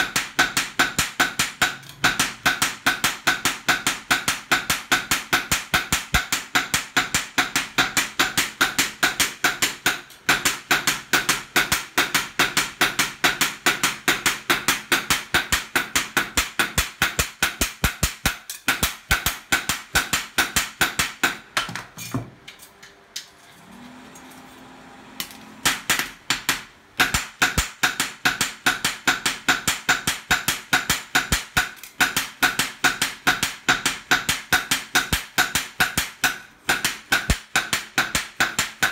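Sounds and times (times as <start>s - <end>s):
hammers striking metal on anvil: 0.0s - 22.6s, 25.2s - 38.9s.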